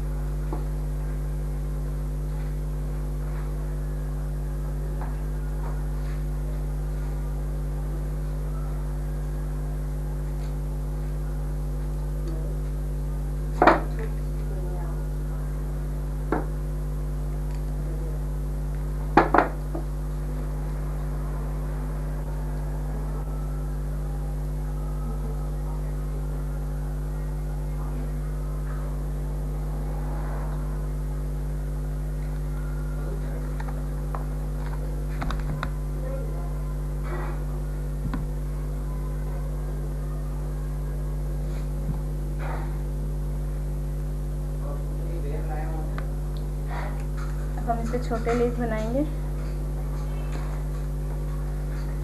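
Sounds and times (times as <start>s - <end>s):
steady electrical hum: 0.0s - 52.0s.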